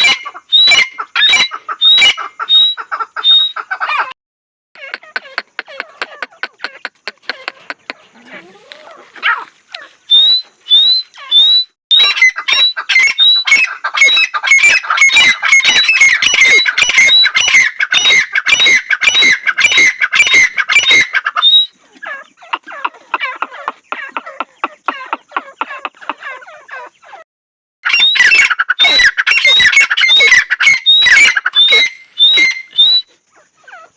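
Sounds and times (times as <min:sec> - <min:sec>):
francolin calling: 0:00.0 - 0:04.2, 0:04.8 - 0:27.2, 0:27.8 - 0:33.9.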